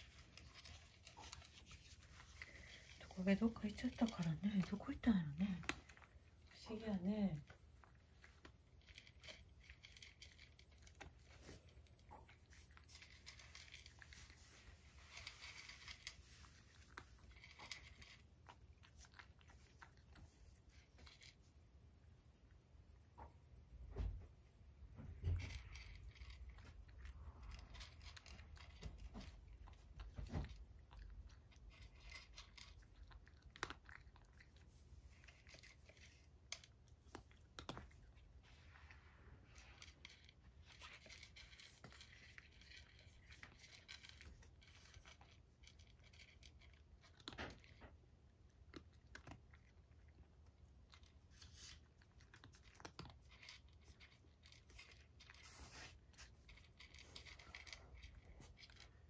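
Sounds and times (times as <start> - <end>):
cat crunching dry kibble: 0.0 - 22.6, 25.0 - 59.0.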